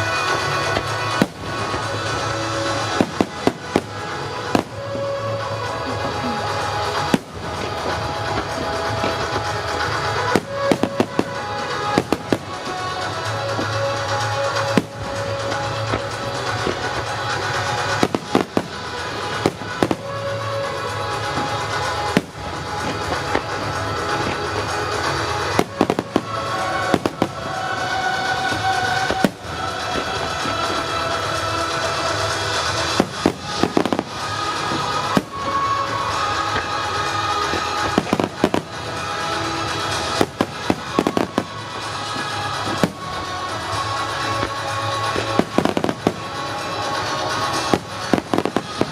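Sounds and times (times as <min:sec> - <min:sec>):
fireworks banging: 0:00.0 - 0:48.9
music: 0:00.0 - 0:48.9.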